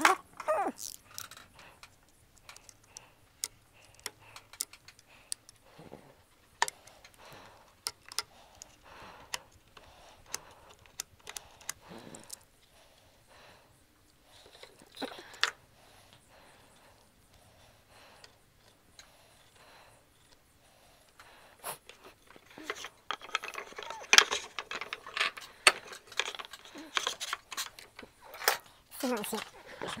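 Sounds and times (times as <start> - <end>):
light clicks and taps of tools: 0.8 - 12.7, 14.0 - 17.5, 18.1 - 29.6.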